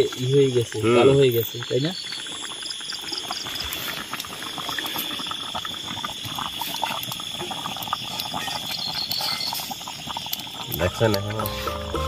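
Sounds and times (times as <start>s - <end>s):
small crackles and pops: 0.0s - 11.7s
food bubbling and sizzling: 0.0s - 12.0s.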